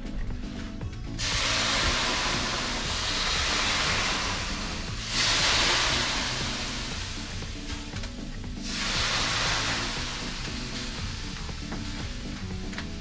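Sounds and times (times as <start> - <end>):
water hissing on hot stones: 1.2 - 13.0.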